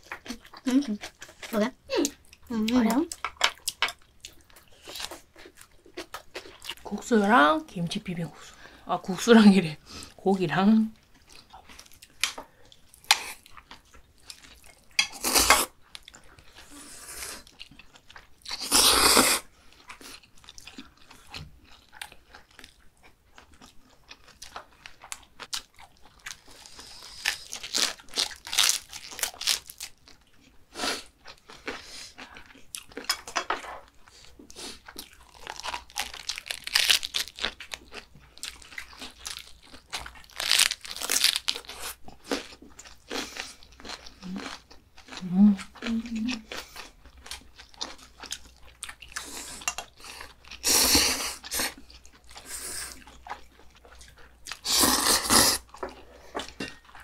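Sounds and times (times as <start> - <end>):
people crunching cabbage: 0.0 - 57.0.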